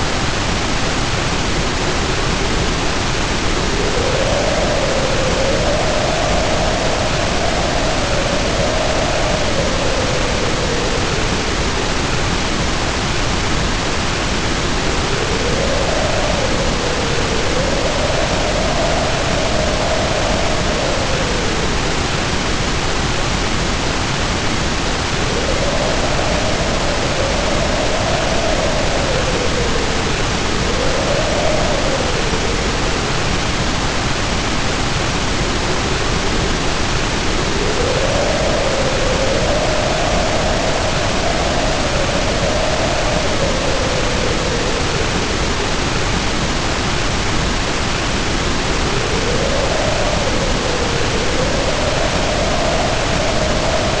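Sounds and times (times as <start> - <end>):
heavy rain hiss: 0.0 - 54.0
storm wind howling: 0.0 - 54.0.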